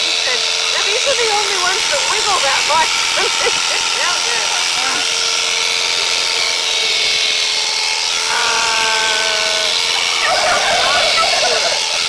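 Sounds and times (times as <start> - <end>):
electric shears buzzing: 0.0 - 12.0.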